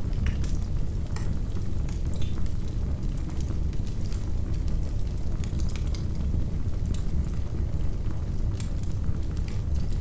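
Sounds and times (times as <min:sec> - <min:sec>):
low rumble of flames: 0:00.0 - 0:10.0.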